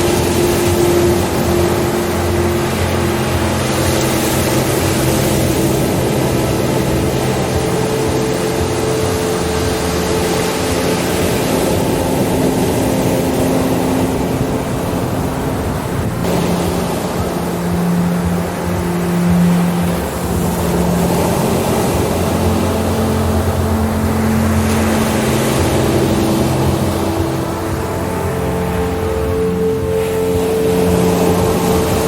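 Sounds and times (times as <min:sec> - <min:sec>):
ambient music with low tones: 0:00.0 - 0:32.0
ocean surf wash: 0:00.0 - 0:32.0.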